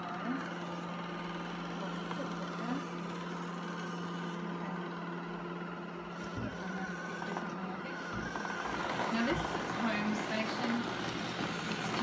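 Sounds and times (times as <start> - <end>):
robot vacuum motor hum: 0.0 - 12.0.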